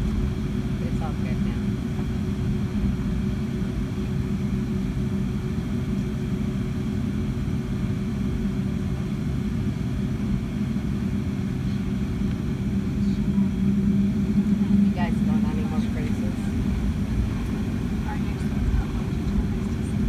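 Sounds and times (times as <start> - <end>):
aircraft engines idling rumble: 0.0 - 20.0
constant cabin hum: 0.0 - 20.0.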